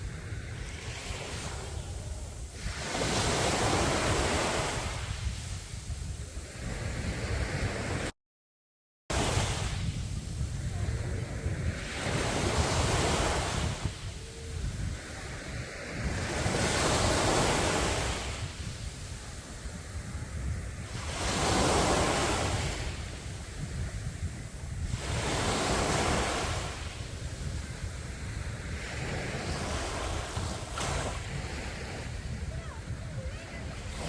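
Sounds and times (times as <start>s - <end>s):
sea waves breaking on a beach: 0.0s - 8.1s, 9.1s - 34.0s
wind rumbling on microphone: 0.0s - 8.1s, 9.1s - 34.0s.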